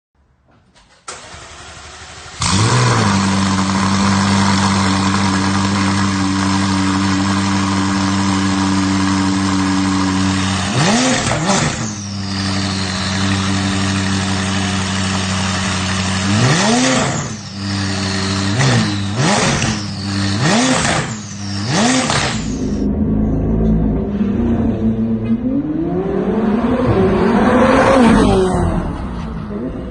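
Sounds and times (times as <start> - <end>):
car engine starting and idling: 0.7 - 29.9
engine revving: 1.1 - 29.8.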